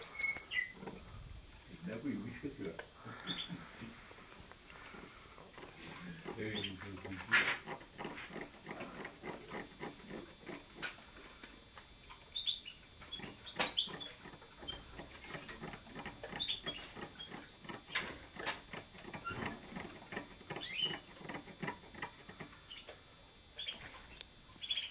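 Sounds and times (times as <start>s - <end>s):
birds chirping: 0.0s - 10.8s, 12.2s - 23.0s, 23.6s - 24.9s.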